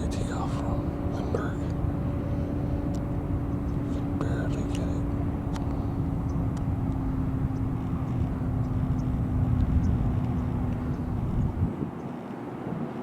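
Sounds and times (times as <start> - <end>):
passing vehicle engine rumble: 0.0 - 13.0.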